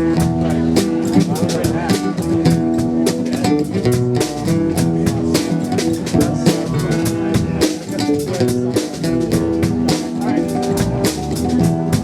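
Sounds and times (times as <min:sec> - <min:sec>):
drum kit beat: 0:00.0 - 0:12.0
guitar and bass notes: 0:00.0 - 0:12.0.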